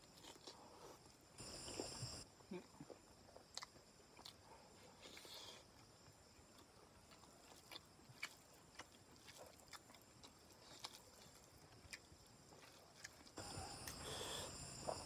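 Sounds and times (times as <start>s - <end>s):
person chewing food: 0.0s - 2.2s, 2.8s - 15.0s.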